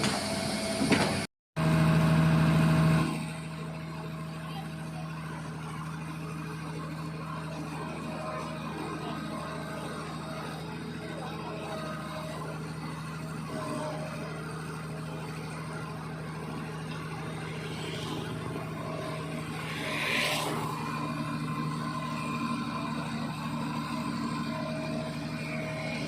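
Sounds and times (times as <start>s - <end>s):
heavy machine engine humming: 0.0s - 26.0s.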